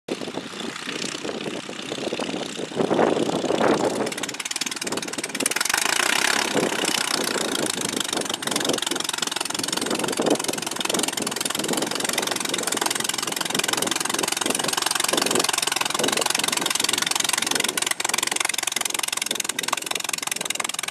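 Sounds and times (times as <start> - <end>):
biplane engine running at low power: 0.1 - 20.9
propeller beat: 0.1 - 20.9.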